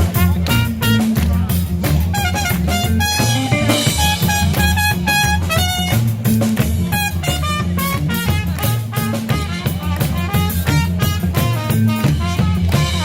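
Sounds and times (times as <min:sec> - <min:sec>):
drum kit: 0:00.0 - 0:13.0
live reggae band playing: 0:00.0 - 0:13.0
trumpet melody: 0:00.0 - 0:13.0
walking bass line: 0:00.0 - 0:13.0.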